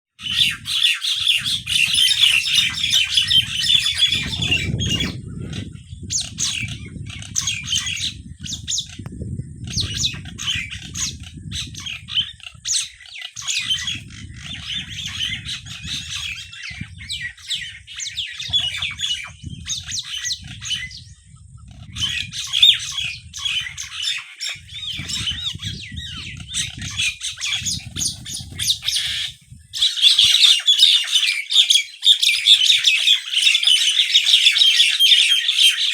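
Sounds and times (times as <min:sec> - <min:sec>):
small birds chirping: 0:00.1 - 0:35.9.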